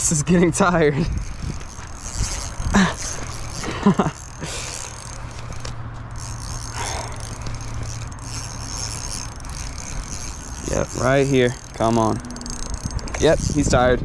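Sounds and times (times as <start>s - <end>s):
fishing reel gears whirring: 0.0s - 14.0s.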